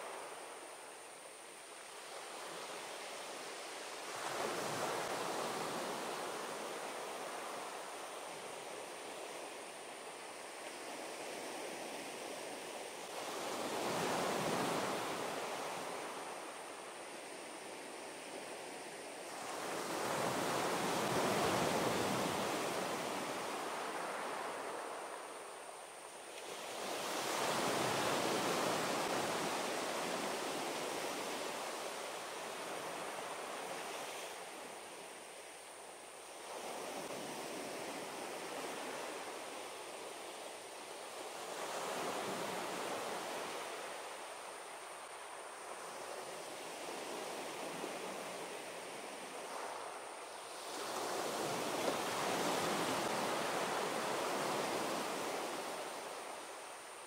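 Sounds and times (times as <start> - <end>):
sea waves breaking on beach: 1.6 - 57.0.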